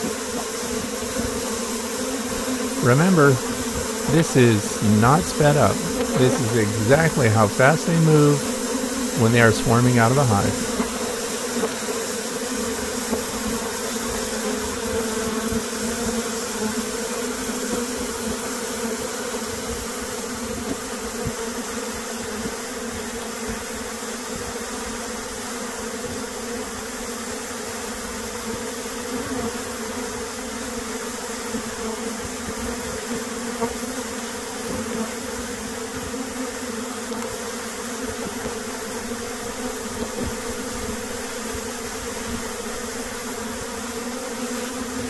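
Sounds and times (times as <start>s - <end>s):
bee swarm humming: 0.0s - 45.0s.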